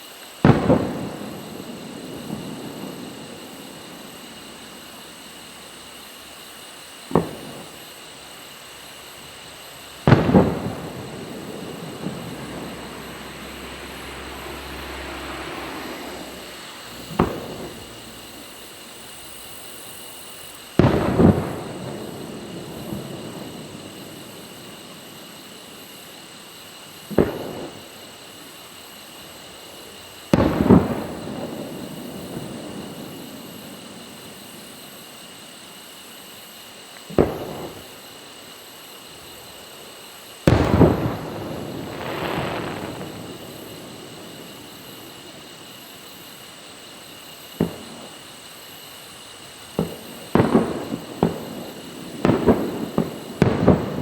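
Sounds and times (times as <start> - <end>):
firework bangs: 0.0 - 36.4, 37.0 - 38.3, 38.9 - 54.0.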